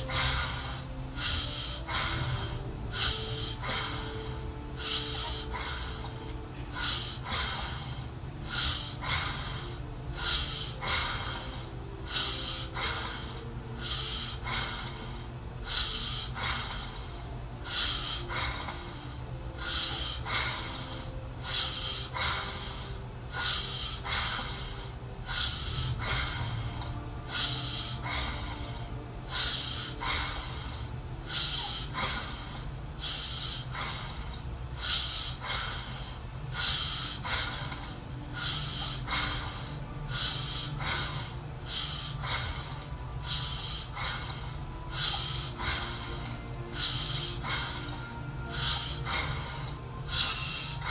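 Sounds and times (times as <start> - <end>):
man snoring: 0.0 - 50.9
steady low hum: 0.0 - 50.9.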